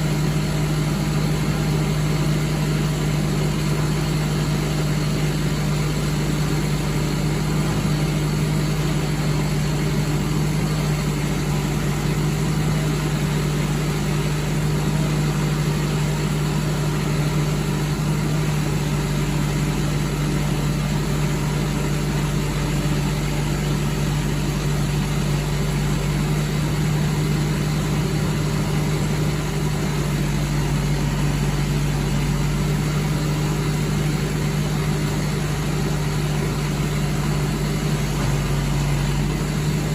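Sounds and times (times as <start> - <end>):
lorry engine running: 0.0 - 39.9.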